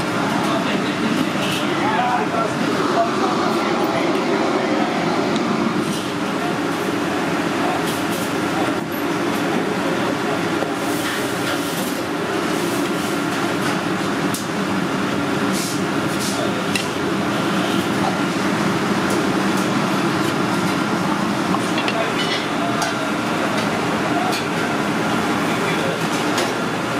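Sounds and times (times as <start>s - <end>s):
kitchen mechanical rumble: 0.0s - 26.9s.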